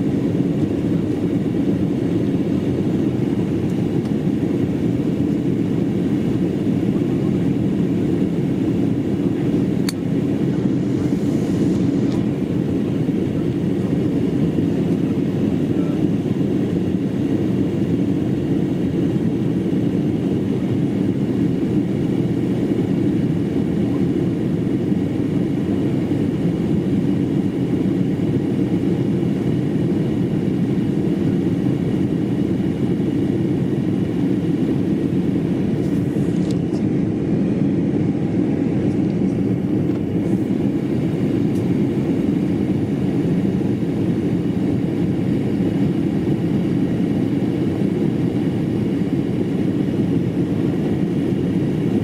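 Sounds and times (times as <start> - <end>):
airliner engines droning in cabin: 0.0 - 52.0.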